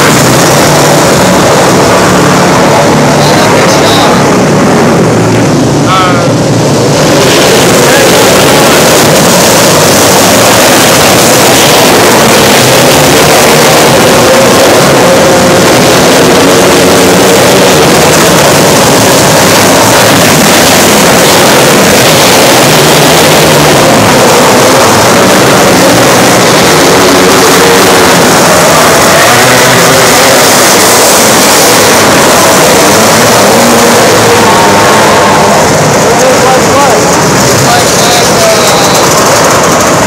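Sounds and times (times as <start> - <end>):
race car engines: 0.0 - 40.0.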